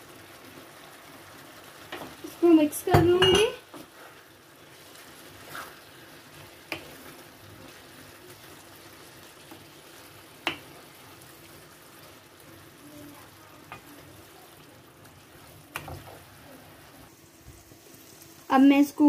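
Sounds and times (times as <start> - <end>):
spatula stirring in a pan: 0.0 - 18.8
low simmering sizzle: 0.0 - 19.0.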